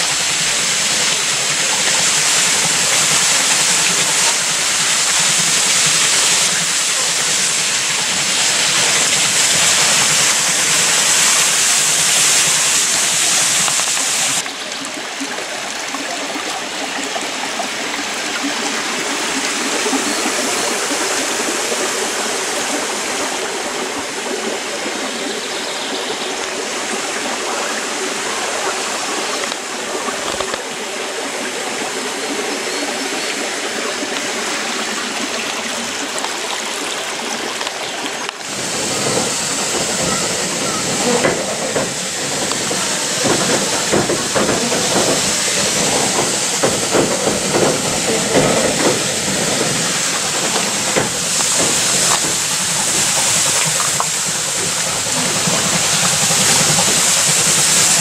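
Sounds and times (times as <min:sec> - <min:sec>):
water running down flume: 0:00.0 - 0:58.0
water rushing onto water wheel: 0:00.0 - 0:58.0.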